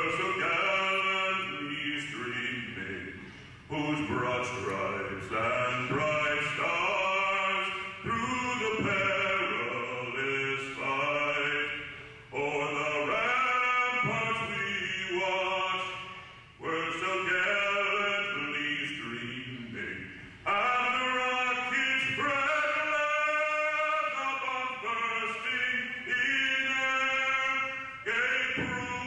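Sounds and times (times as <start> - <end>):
person singing slow song: 0.0 - 29.0.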